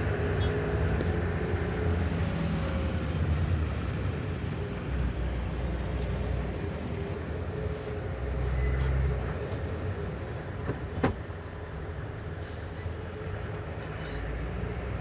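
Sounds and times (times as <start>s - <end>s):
rumbling vehicle noise: 0.0s - 15.0s.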